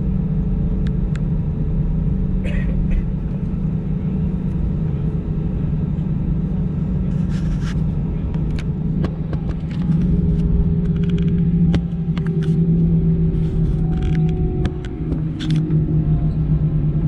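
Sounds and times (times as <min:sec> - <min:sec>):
high steady hum: 0:00.0 - 0:17.0
jet engines droning: 0:00.0 - 0:17.0
taxiway rumble: 0:00.0 - 0:17.0.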